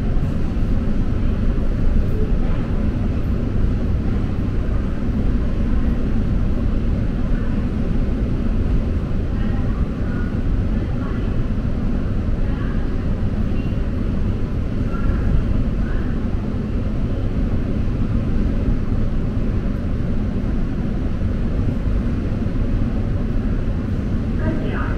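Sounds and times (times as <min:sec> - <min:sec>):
train low rumble: 0:00.0 - 0:24.9.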